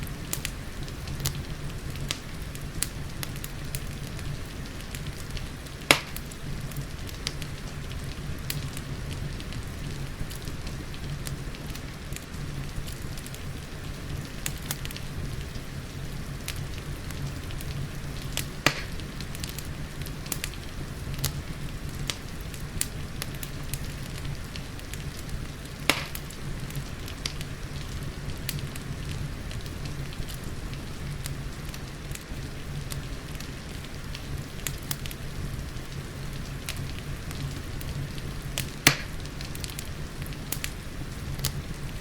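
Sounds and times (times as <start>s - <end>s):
fireplace crackling and popping: 0.0s - 42.0s
rain hissing: 0.0s - 42.0s.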